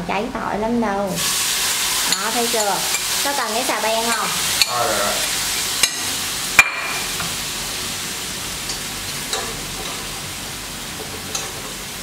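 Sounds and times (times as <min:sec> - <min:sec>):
fish sizzling in hot oil: 0:01.2 - 0:12.0.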